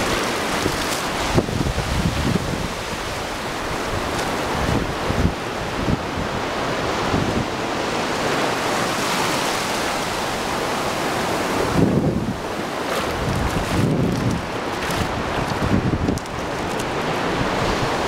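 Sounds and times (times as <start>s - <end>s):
wind buffeting microphone: 0.0s - 8.0s, 11.4s - 18.0s
ocean surf washing ashore: 0.0s - 18.0s.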